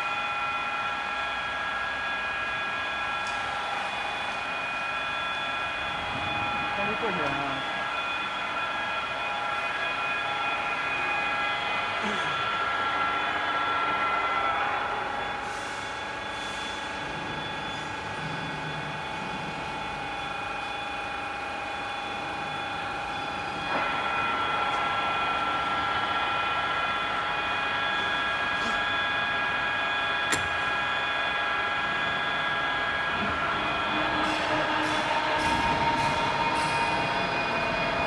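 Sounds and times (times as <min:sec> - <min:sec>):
drilling machine whine: 0:00.0 - 0:38.0.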